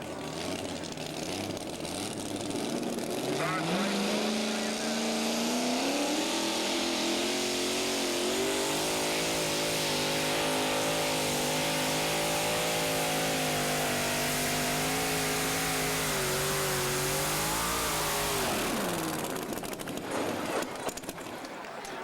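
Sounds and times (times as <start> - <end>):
engine revving under load: 0.0 - 21.3.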